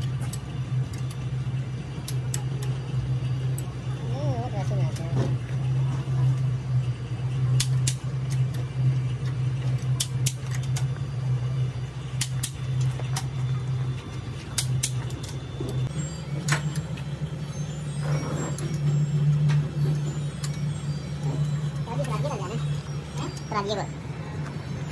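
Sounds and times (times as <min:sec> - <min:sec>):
low machine drone: 0:00.0 - 0:24.9.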